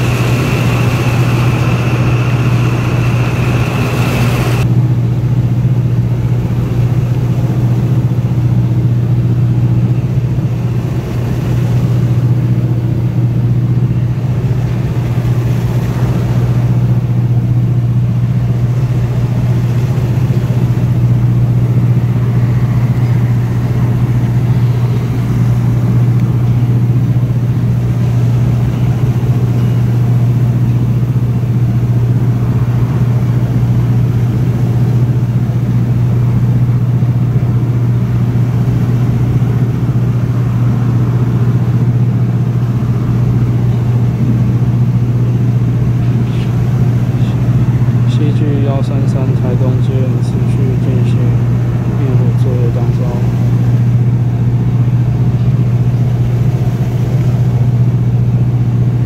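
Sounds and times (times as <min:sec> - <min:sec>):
boat engine droning: 0:00.0 - 0:59.0
water noise: 0:00.0 - 0:59.0
wind: 0:00.0 - 0:59.0.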